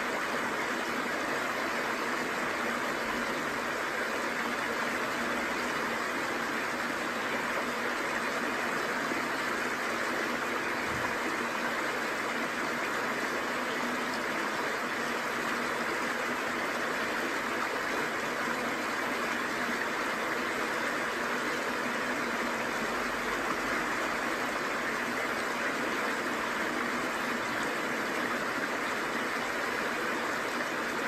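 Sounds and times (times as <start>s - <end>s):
waterfall and stream rushing: 0.0s - 31.0s.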